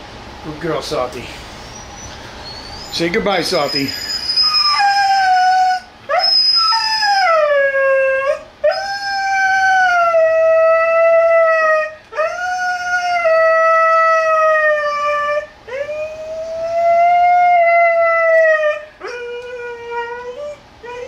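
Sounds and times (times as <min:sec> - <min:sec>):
dog howl-whining: 0:01.7 - 0:21.0.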